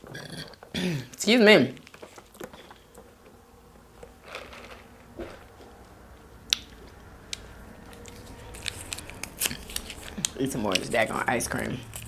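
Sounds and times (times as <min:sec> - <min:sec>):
close-up eating sounds: 0:01.8 - 0:12.0.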